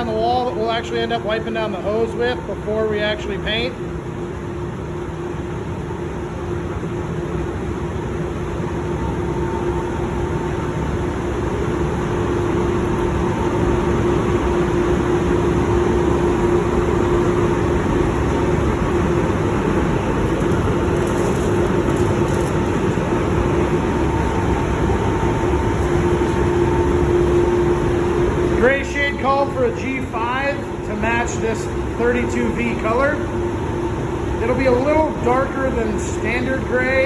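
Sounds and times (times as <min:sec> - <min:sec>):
low hum: 0:00.0 - 0:37.0
ventilation fan air rush: 0:00.0 - 0:37.0.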